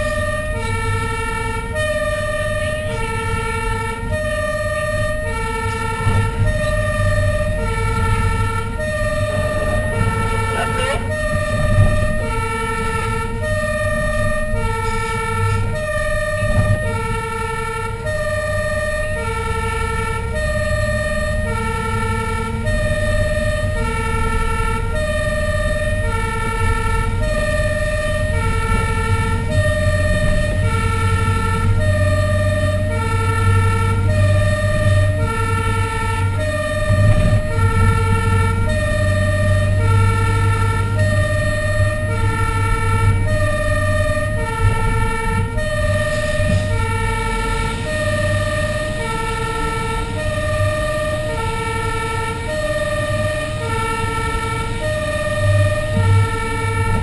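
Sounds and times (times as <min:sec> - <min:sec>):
truck engine hum: 0:00.0 - 0:57.0
two-tone siren: 0:00.0 - 0:57.0.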